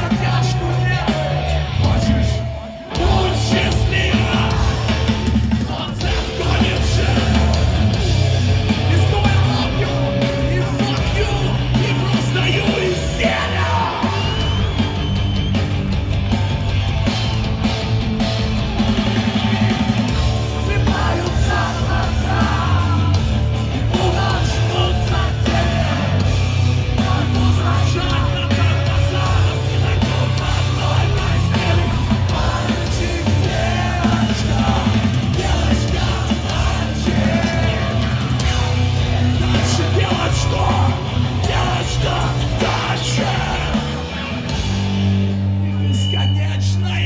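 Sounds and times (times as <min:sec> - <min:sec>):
heavy rock band playing: 0:00.0 - 0:47.0.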